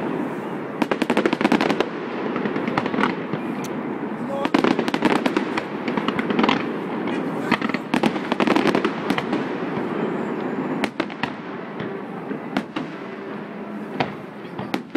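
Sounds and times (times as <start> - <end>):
fireworks bangs and crackling: 0.0 - 14.9.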